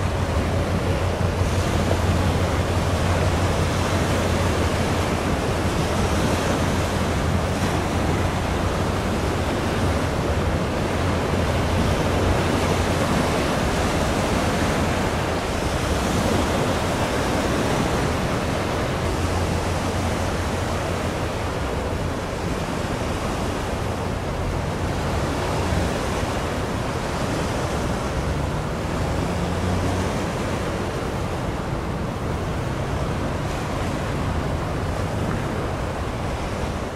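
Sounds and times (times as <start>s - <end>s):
sea water washing against shore: 0.0s - 36.9s.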